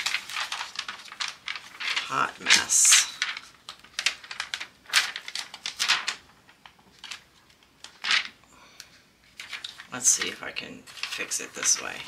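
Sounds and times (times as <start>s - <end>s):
plastic film crackling: 0.0s - 12.0s.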